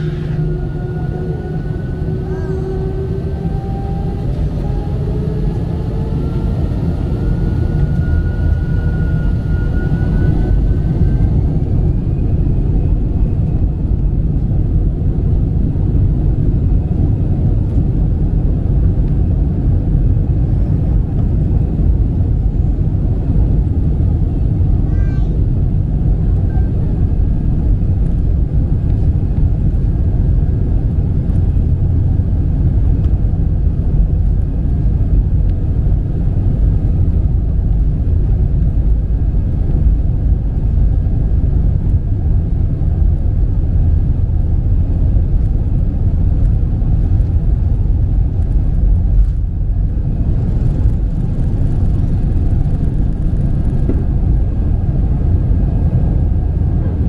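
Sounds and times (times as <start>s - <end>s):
jet cabin rumble: 0.0s - 57.0s.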